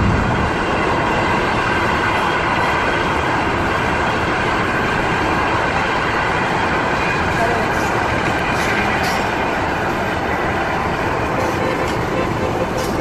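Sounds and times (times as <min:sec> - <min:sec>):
car road and wind noise: 0:00.0 - 0:13.0
train rumbling past: 0:00.0 - 0:13.0.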